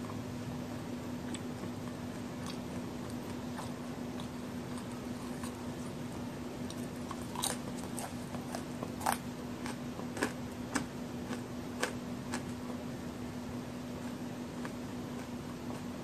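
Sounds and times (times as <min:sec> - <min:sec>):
cookie crunching while chewing: 0:01.2 - 0:12.8, 0:13.9 - 0:16.0.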